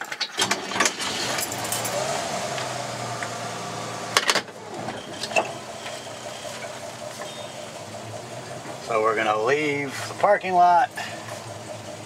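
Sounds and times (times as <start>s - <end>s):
car engine idling: 0.5s - 12.0s.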